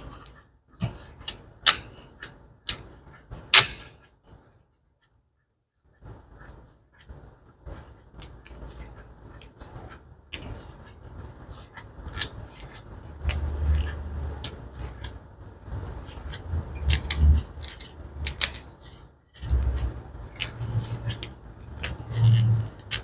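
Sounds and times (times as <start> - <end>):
rustling of insulated lines: 0.0 - 23.0.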